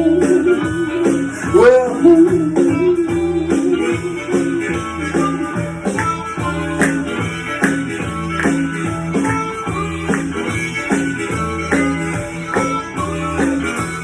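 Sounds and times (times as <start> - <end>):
blues band playing: 0.0 - 14.0.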